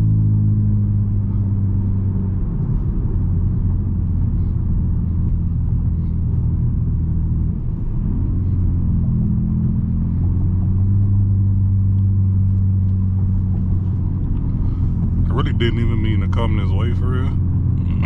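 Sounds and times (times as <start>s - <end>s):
car exhaust drone: 0.0s - 18.0s.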